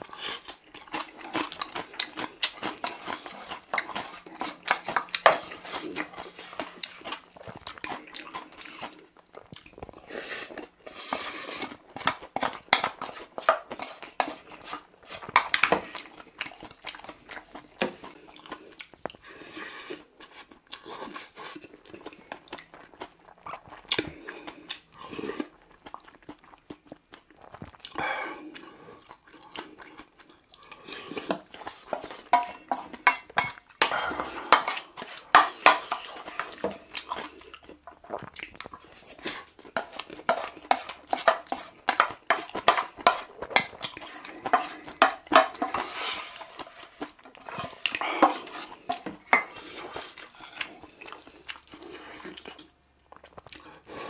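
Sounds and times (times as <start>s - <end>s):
close-up chewing with crunches: 0.0s - 54.0s.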